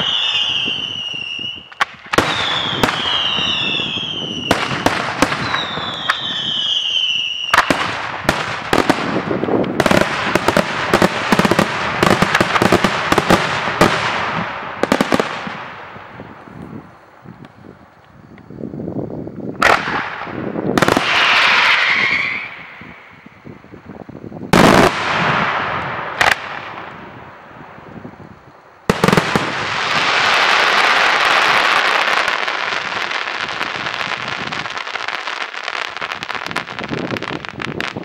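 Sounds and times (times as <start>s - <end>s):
firework crackling: 0.0s - 38.0s.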